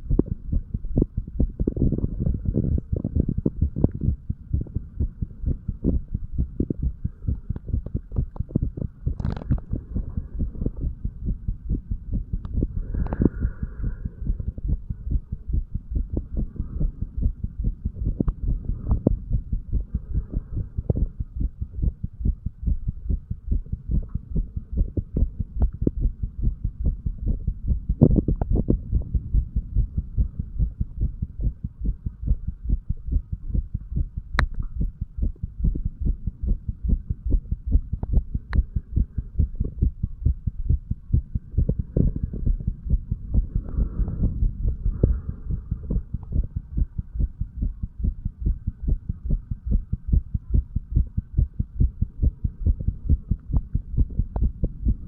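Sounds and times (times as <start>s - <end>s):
heartbeat lub-dub thumps: 0.0s - 55.0s.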